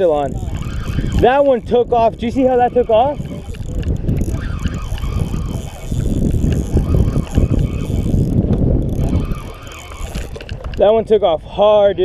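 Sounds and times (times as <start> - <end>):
fishing reel being cranked: 0.0 - 11.0
wind rumble on microphone: 0.0 - 12.0.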